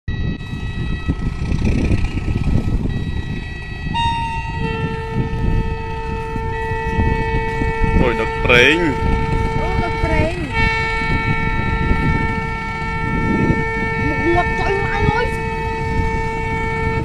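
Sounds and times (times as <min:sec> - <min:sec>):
wind rumble on microphone: 0:00.1 - 0:17.0
train horn: 0:02.8 - 0:17.0.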